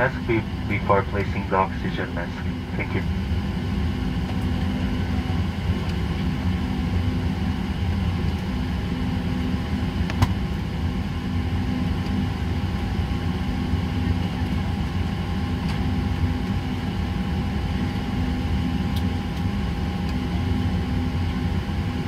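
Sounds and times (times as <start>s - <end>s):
aircraft cabin hum: 0.0s - 22.0s.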